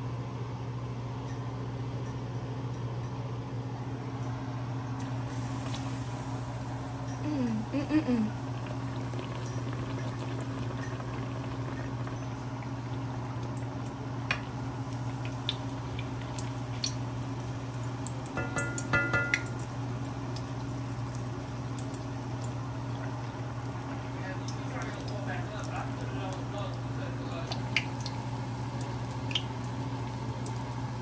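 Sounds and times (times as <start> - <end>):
deep-frying sizzle with pops: 5.0 - 31.0.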